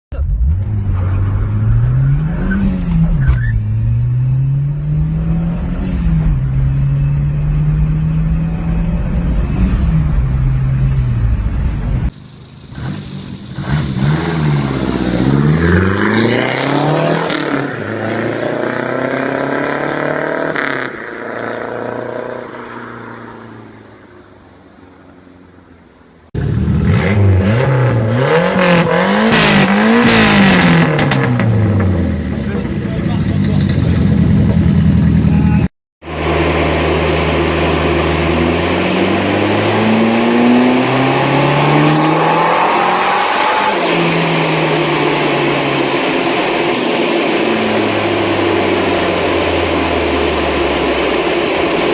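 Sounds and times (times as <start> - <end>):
car engine revving: 0.1 - 51.9.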